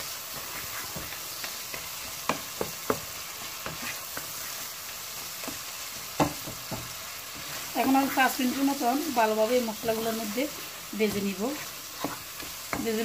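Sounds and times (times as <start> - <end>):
fish frying in oil: 0.0 - 13.0.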